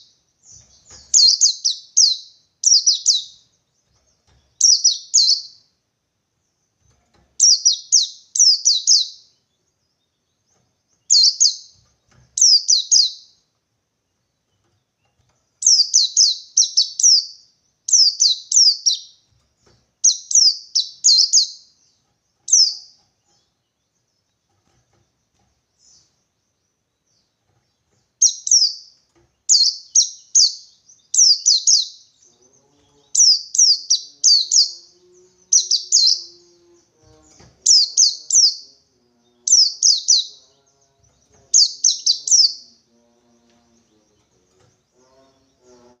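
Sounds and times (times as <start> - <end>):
white-eye bird singing: 0.0 - 5.8, 6.4 - 13.5, 14.1 - 46.0.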